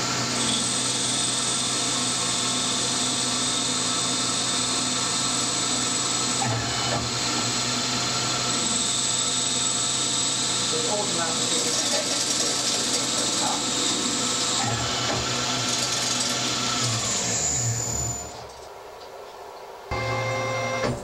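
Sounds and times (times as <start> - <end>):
metal lathe cutting metal: 0.0 - 18.4.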